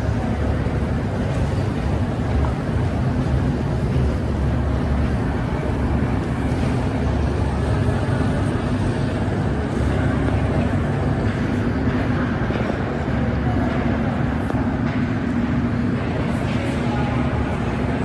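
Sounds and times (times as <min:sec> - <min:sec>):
escalator machinery rumble: 0:00.0 - 0:18.0.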